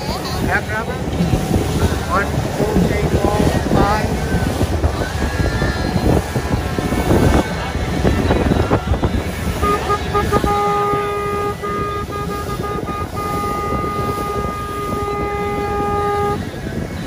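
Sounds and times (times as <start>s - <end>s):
boat horn honking: 0.0s - 17.0s
wind and water rushing: 0.0s - 17.0s.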